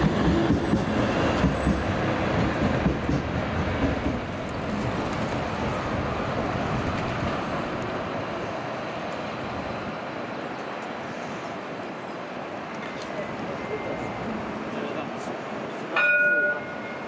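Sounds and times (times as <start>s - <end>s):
steady traffic hum: 0.0s - 17.0s.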